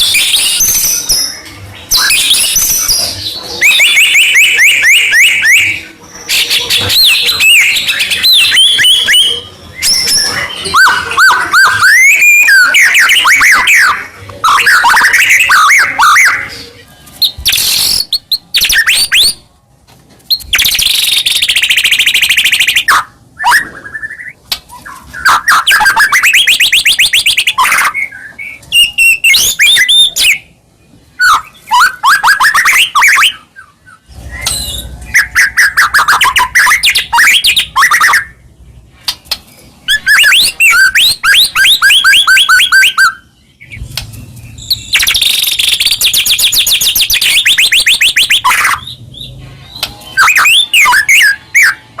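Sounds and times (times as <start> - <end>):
bird singing trills and whistles: 0.0 - 19.4, 20.3 - 52.0.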